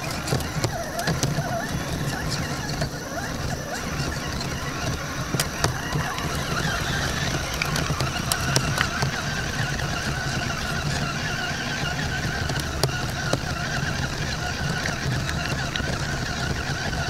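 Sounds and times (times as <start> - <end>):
electric motor whining: 0.0 - 17.0
tyres clicking on rocks: 0.0 - 17.0.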